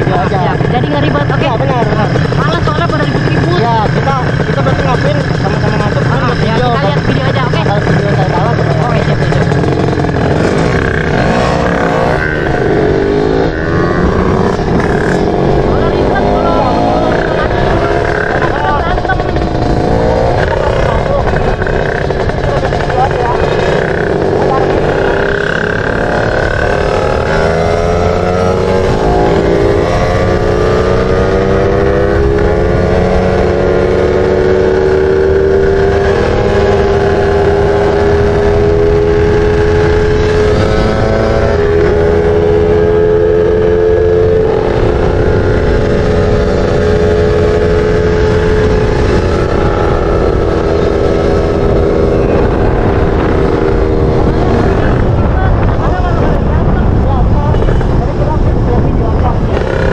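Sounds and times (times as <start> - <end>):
motorcycle engines revving high: 0.0 - 59.9
wind rushing over microphone: 0.0 - 59.9.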